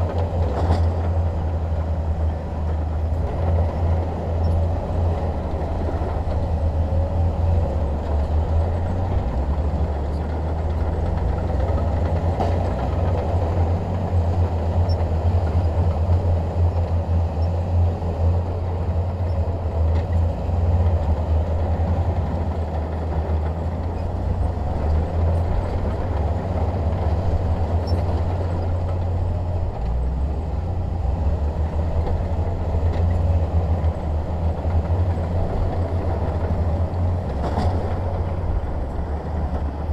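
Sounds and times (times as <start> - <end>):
bulldozer diesel engine rumbling: 0.0 - 39.9.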